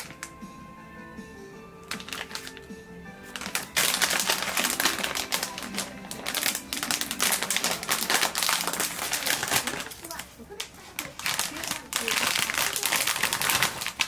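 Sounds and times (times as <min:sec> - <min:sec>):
background music with held tones: 0:00.0 - 0:14.0
fast crackling clicks: 0:01.9 - 0:02.7, 0:03.4 - 0:14.0.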